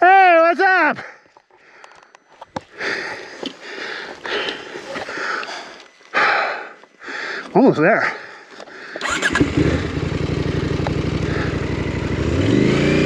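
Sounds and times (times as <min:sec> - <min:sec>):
person breathing hard: 0:01.0 - 0:11.9.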